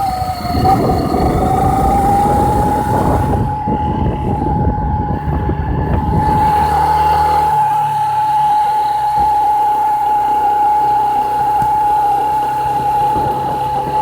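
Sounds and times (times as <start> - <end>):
high steady whistle: 0.0 - 14.0
motorcycle engine rumble: 0.0 - 14.0.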